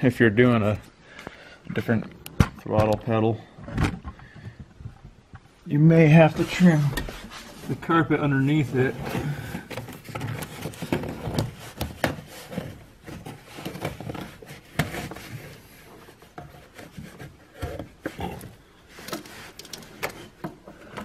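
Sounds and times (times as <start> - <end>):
carpet rustling and scraping: 2.8 - 21.0.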